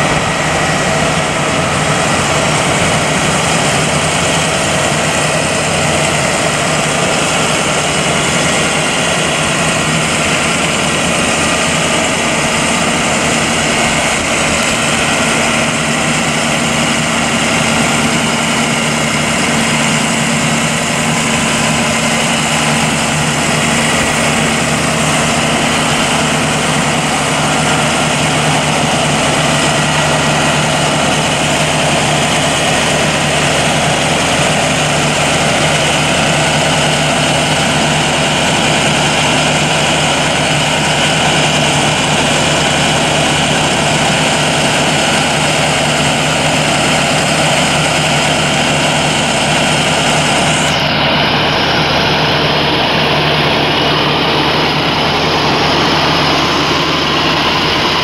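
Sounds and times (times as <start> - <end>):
ambulance engine idling: 0.0 - 58.0.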